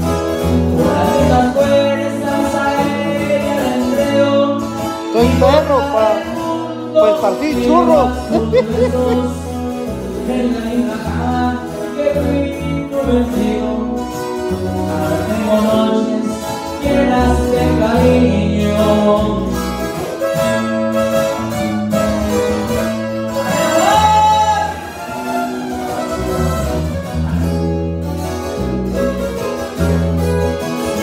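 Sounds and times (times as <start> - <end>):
acoustic guitars playing: 0.0 - 31.0
electric bass playing: 0.0 - 31.0.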